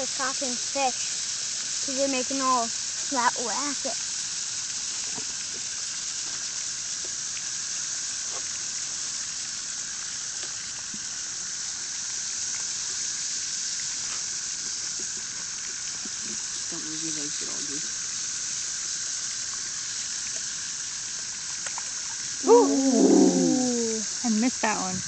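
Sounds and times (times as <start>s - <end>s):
cicadas chorus: 0.0s - 25.0s.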